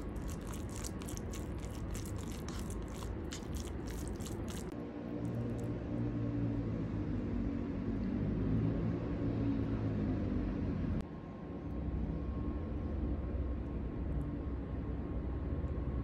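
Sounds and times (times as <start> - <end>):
low mechanical rumble with hum: 0.0 - 16.0.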